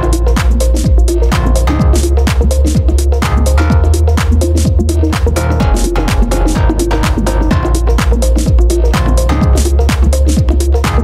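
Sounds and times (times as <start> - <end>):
electronic dance music with heavy bass: 0.0 - 11.0.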